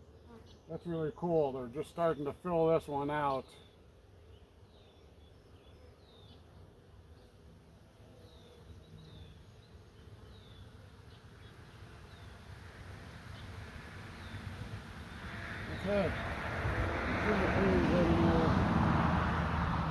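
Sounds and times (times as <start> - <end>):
honeybees buzzing: 0.0 - 19.9.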